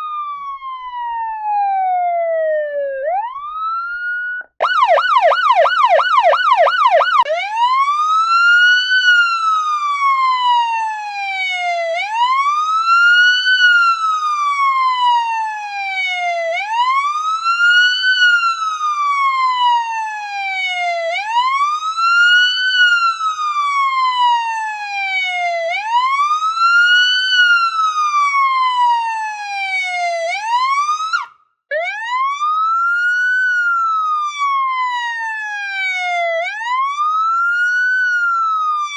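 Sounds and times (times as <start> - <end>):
electronic police siren: 0.0 - 38.9.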